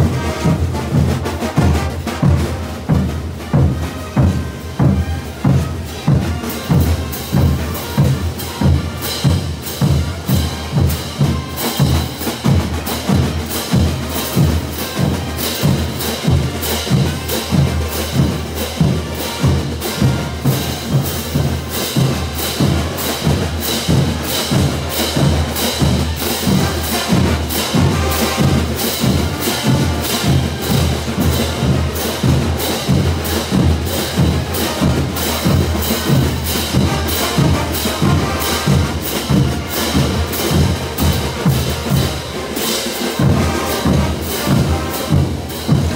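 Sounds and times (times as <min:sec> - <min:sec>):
brass instruments: 0:00.0 - 0:45.9
drums: 0:00.0 - 0:45.9.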